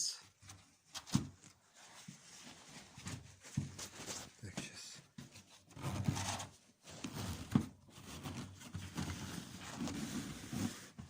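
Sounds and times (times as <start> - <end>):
rustling and scraping handling noise: 0.2 - 11.0.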